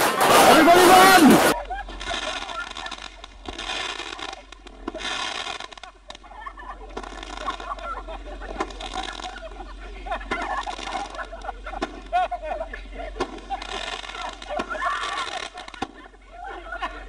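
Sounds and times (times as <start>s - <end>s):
fireworks crackling and popping: 0.0s - 17.0s
fireworks hissing: 0.0s - 17.0s.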